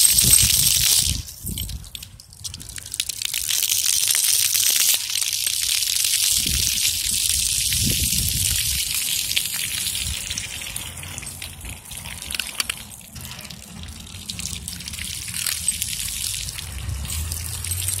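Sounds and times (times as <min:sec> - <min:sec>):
fountain jets spraying on pavement: 0:00.0 - 0:18.0.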